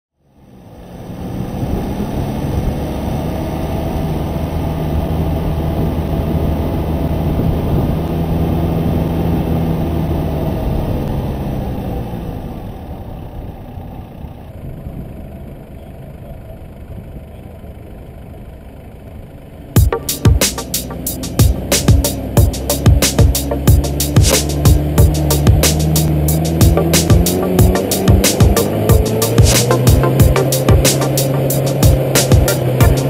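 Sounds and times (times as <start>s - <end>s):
road noise: 0.1s - 33.0s
vehicle engine hum: 0.1s - 33.0s.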